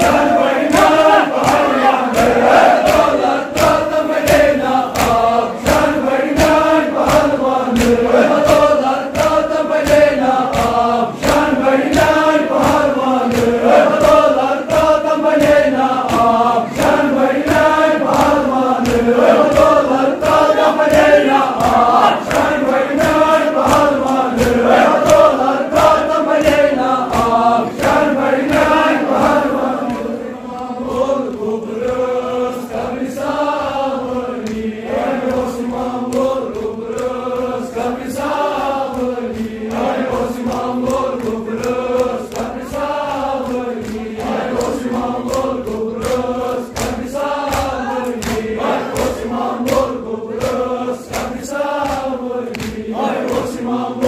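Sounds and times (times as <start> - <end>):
men chanting in unison: 0.0 - 54.0
rhythmic hand slaps on chests: 0.0 - 54.0.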